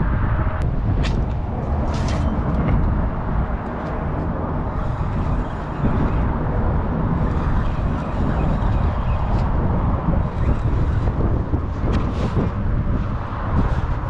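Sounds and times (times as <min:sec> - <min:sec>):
road traffic rumbling: 0:00.0 - 0:14.0
wind buffeting microphone: 0:00.0 - 0:14.0.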